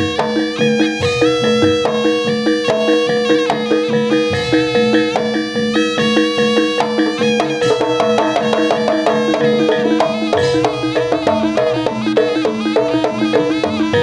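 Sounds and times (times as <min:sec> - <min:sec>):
gamelan ensemble music: 0:00.0 - 0:14.0.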